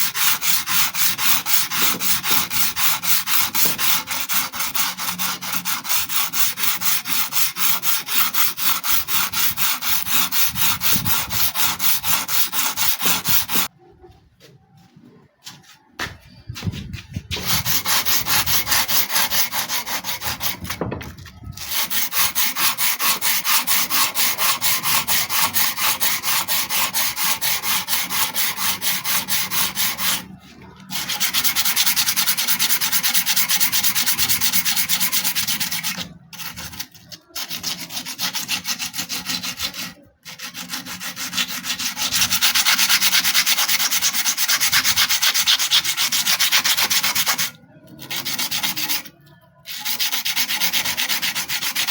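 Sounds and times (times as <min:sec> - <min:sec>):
sanding steel blade: 0:00.0 - 0:13.7, 0:17.3 - 0:20.8, 0:21.6 - 0:51.9.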